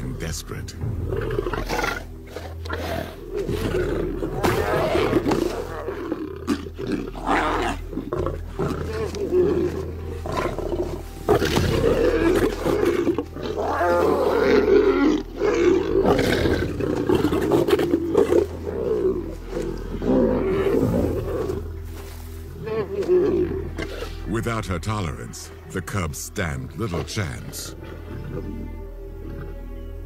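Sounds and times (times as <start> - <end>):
lions snarling and growling: 0.8 - 24.4, 26.9 - 30.0.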